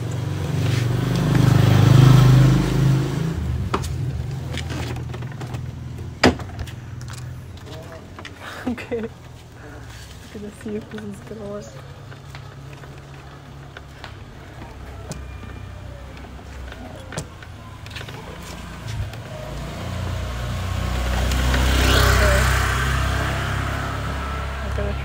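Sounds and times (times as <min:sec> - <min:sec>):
motor scooter rumble: 0:00.0 - 0:25.0.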